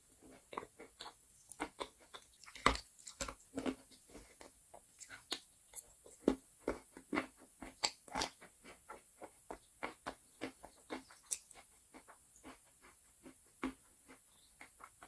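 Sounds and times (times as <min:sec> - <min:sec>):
chalk being chewed: 0:00.1 - 0:15.0.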